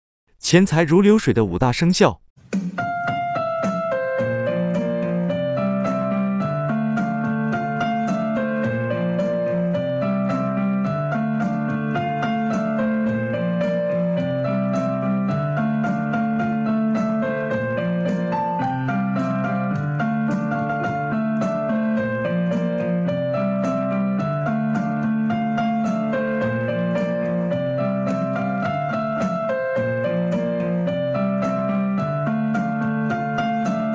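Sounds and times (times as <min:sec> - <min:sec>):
gentle piano music: 0:02.8 - 0:33.9.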